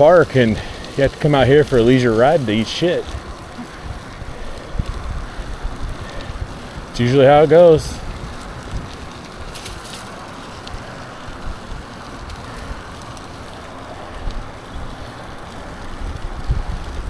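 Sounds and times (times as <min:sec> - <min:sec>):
bicycle tyre road noise: 0:00.0 - 0:17.0
wind buffeting microphone: 0:00.0 - 0:17.0.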